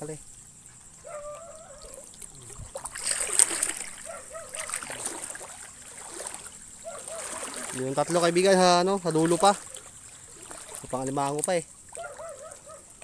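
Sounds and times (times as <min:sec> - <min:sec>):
river water splashing and trickling: 0:00.0 - 0:13.0.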